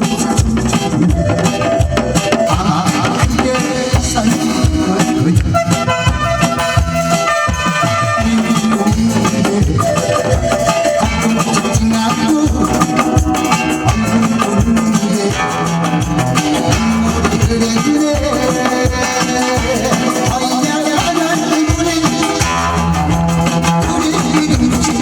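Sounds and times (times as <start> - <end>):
instrumental music with steady beat: 0.0 - 25.0.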